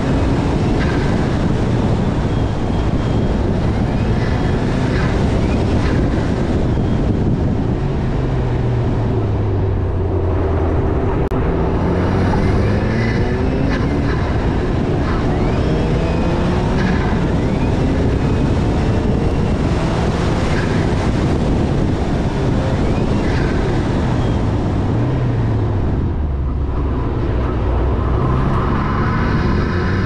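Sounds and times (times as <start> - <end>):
car engine pulling: 0.0 - 30.0
wind and road noise: 0.0 - 30.0.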